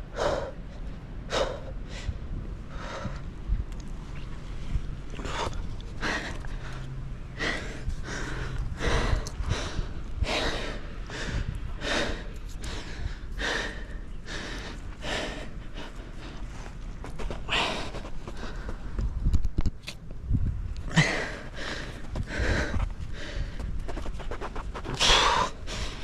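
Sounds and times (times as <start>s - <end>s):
man breathing hard: 0.0s - 3.3s, 5.2s - 19.0s, 20.9s - 24.0s, 24.7s - 26.0s.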